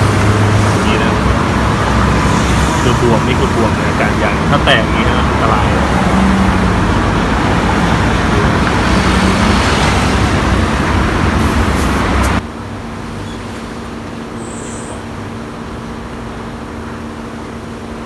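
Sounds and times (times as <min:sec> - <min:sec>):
road traffic rushing: 0:00.0 - 0:18.0.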